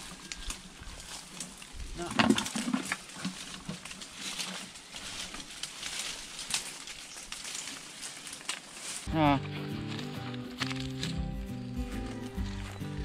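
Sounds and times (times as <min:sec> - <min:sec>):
leaves and branches rustling: 0:00.0 - 0:13.0
twigs crackling: 0:00.0 - 0:13.0.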